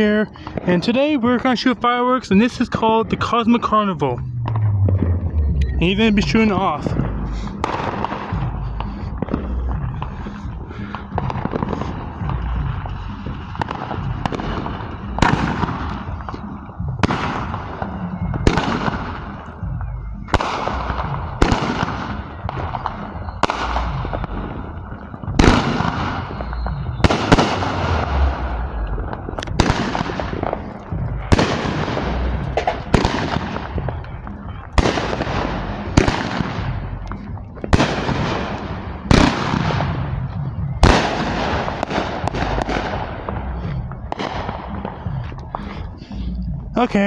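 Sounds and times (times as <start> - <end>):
firework bangs with crackle: 0.0 - 46.1.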